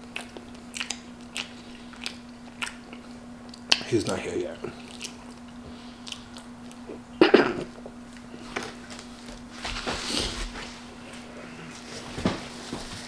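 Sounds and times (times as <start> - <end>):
man chewing: 0.0 - 3.8, 4.6 - 11.9
faint steady hum: 0.0 - 13.0.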